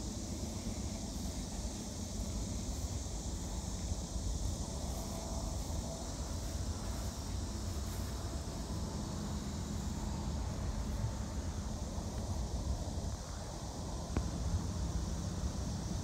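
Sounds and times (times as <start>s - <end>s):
high hiss: 0.0s - 16.0s.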